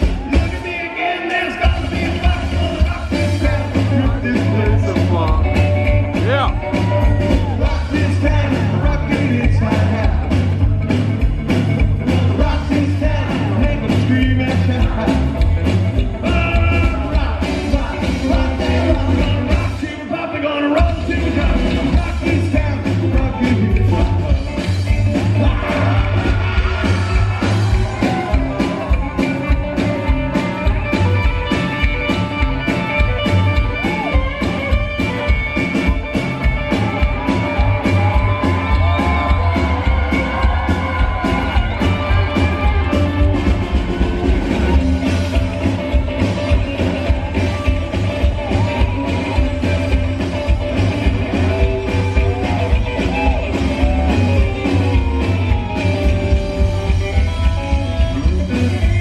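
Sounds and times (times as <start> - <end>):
drum kit: 0.0 - 59.0
upright double bass: 1.6 - 20.0, 20.8 - 59.0
electric guitar: 1.6 - 59.0.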